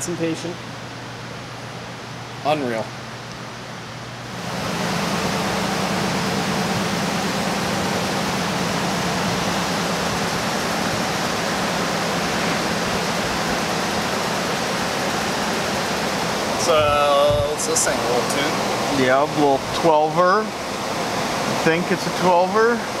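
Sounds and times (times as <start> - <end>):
steady rushing noise: 4.2 - 23.0.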